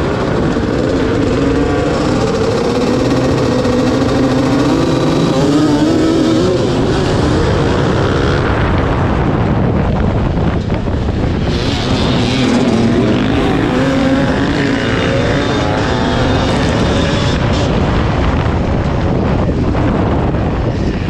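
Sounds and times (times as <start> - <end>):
dirt bike engine revving: 0.0 - 9.2, 11.0 - 18.8.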